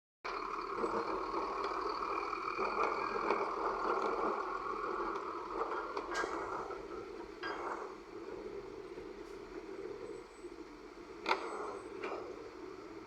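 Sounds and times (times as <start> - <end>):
heavy machinery engine: 0.3 - 13.0.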